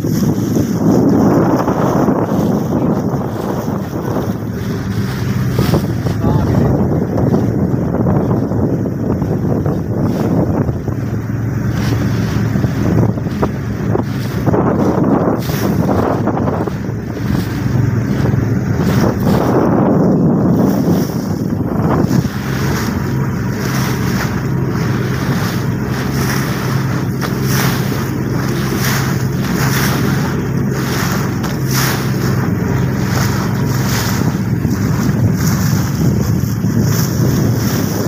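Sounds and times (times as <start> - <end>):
motorboat engine humming: 0.0 - 38.0
water rushing past hull: 0.0 - 38.0
wind buffeting microphone: 0.0 - 38.0.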